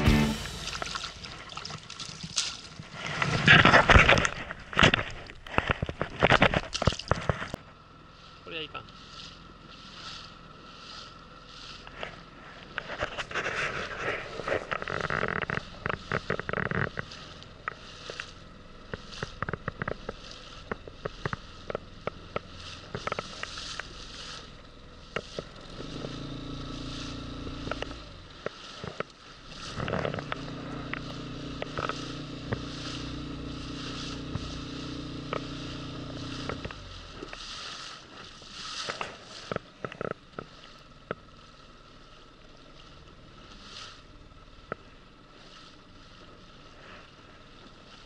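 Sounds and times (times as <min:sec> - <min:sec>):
small boat motor humming: 0:00.0 - 0:48.0.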